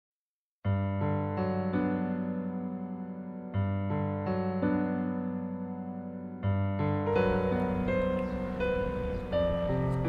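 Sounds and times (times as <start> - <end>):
keyboard chords: 0.7 - 10.0.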